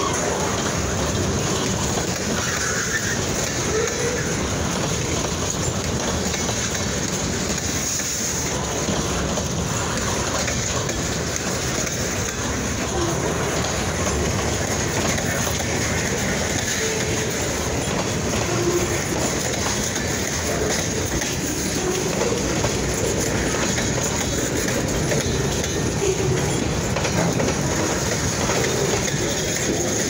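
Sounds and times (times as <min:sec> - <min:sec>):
freight train wheels clattering: 0:00.0 - 0:30.0.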